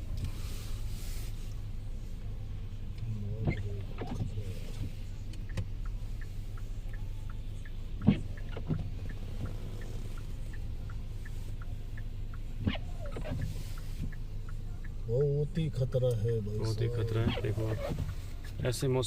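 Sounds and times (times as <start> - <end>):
car engine and road hum: 0.0 - 19.0
faint regular ticking: 1.6 - 19.0.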